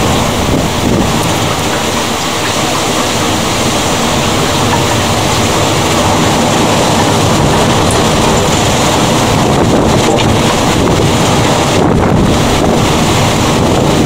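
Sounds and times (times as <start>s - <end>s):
deep thunder rumble: 0.0s - 14.0s
heavy rain: 0.0s - 14.0s
wind buffeting microphone: 0.0s - 14.0s.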